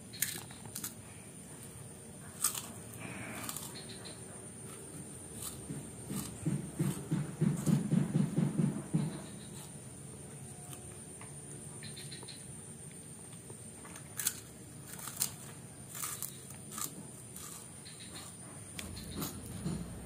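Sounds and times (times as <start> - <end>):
child chewing crunchy crackers: 0.0 - 8.2, 8.9 - 20.0.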